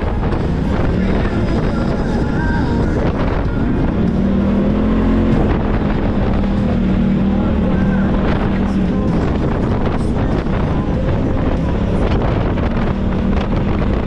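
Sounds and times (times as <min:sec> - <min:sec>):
utility vehicle engine running: 0:00.0 - 0:14.0
wind on microphone: 0:00.0 - 0:14.0.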